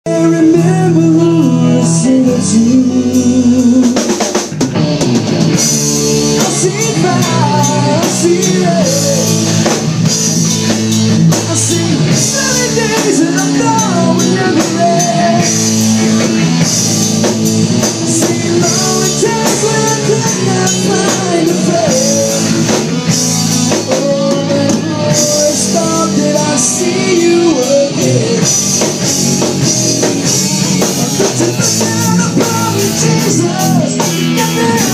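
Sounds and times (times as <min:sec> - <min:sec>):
bass guitar: 0:00.0 - 0:34.9
electric guitars: 0:00.0 - 0:34.9
drum kit: 0:00.1 - 0:34.9.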